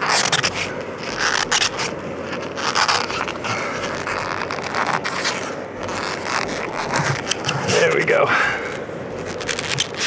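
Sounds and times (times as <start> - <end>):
insulated pipes scraping and rubbing: 0.0 - 10.0.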